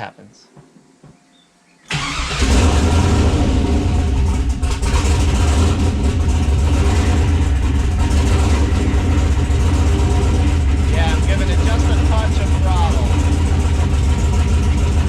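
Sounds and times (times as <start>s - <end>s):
engine cranking and starting: 1.9s - 15.0s
engine running loud: 1.9s - 15.0s.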